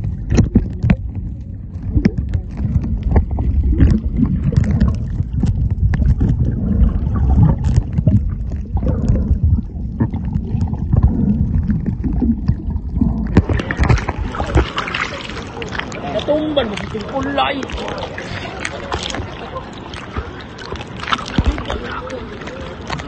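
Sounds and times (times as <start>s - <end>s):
clicks and gurgles: 0.0s - 23.0s
underwater rumble of moving water: 0.0s - 23.0s.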